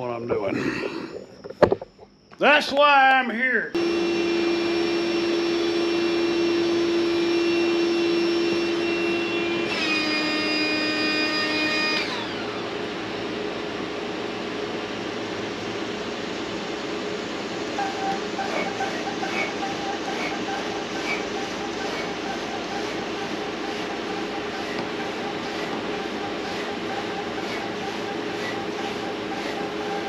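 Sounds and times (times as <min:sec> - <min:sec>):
electric air pump motor hum: 0:03.8 - 0:30.0.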